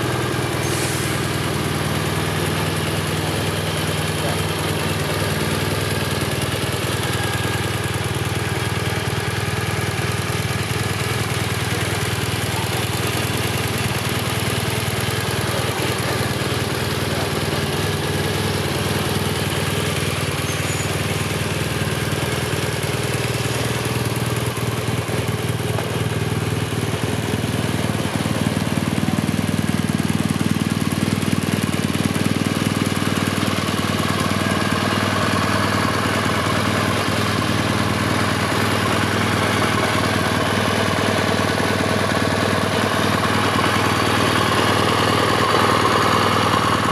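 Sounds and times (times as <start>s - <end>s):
motorcycle engine idling: 0.0s - 46.9s.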